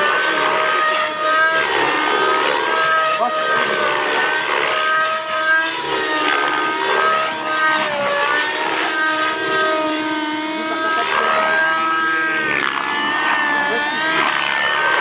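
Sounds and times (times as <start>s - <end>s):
model helicopter motor whine: 0.0s - 15.0s.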